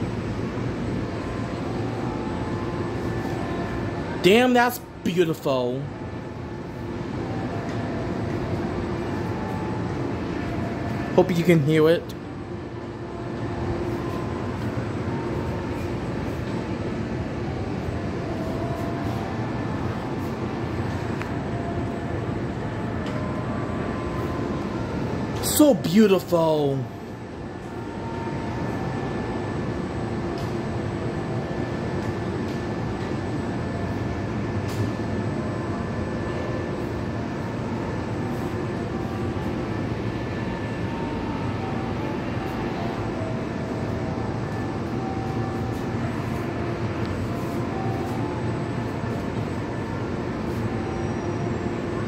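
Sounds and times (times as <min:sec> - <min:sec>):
low city rumble: 0:00.0 - 0:52.0.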